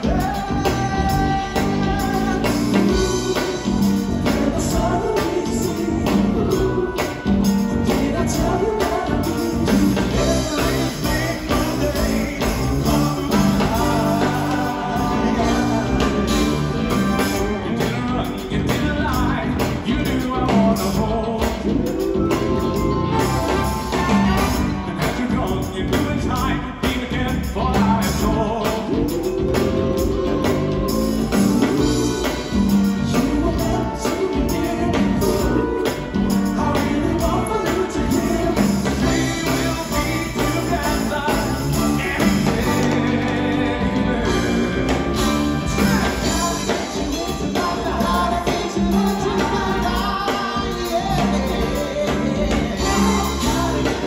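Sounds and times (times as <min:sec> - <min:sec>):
horn section: 0:00.0 - 0:27.0, 0:28.0 - 0:54.0
drum kit and hand percussion: 0:00.0 - 0:54.0
electric bass: 0:00.0 - 0:54.0
guitar: 0:00.0 - 0:54.0
keyboards: 0:00.0 - 0:54.0
person singing: 0:00.0 - 0:54.0.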